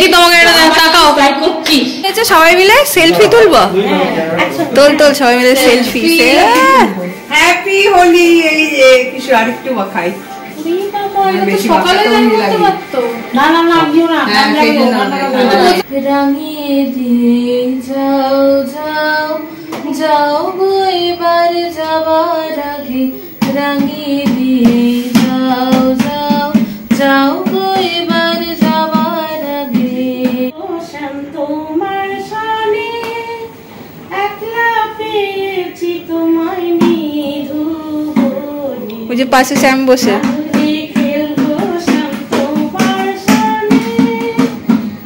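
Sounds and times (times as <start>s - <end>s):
woman singing unaccompanied: 4.7s - 9.3s, 10.4s - 45.0s.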